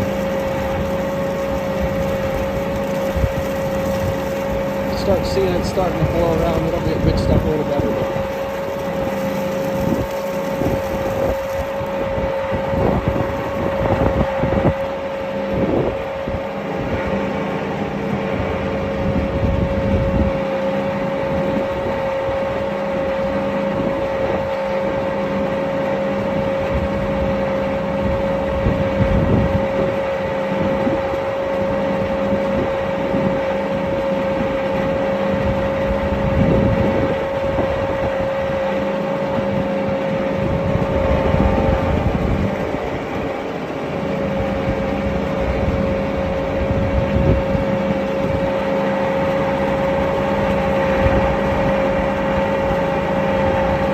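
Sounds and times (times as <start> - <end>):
feed mixer truck droning: 0.0 - 53.9.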